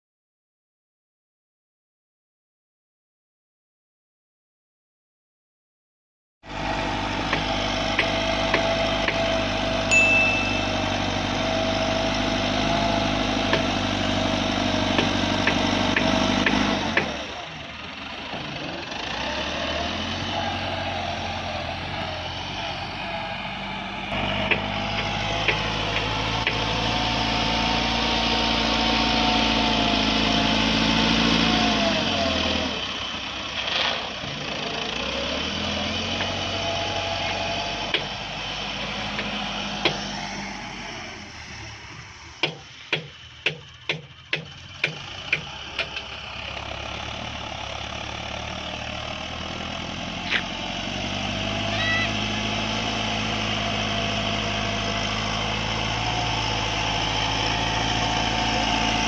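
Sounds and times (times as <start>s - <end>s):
tractor diesel engine running: 6.5s - 59.0s.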